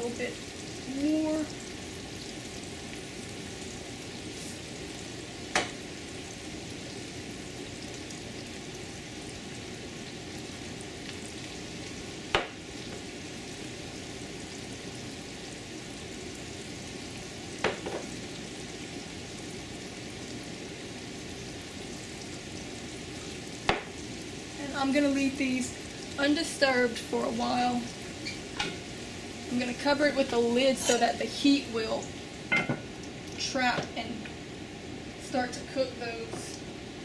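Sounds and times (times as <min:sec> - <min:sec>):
fish balls sizzling in oil: 0:00.0 - 0:37.0.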